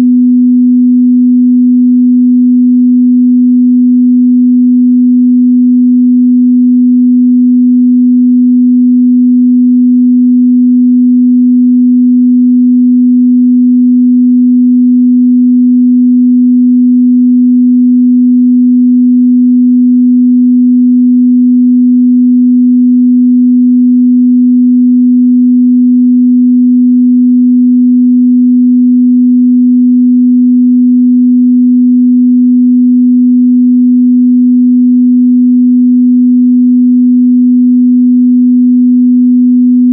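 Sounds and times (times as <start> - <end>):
sine test tone: 0.0 - 39.9.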